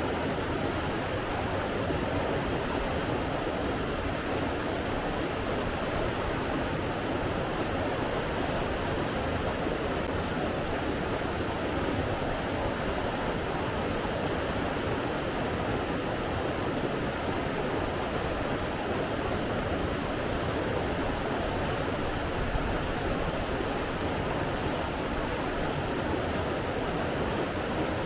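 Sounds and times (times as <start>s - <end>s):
running water rushing: 0.0s - 28.0s.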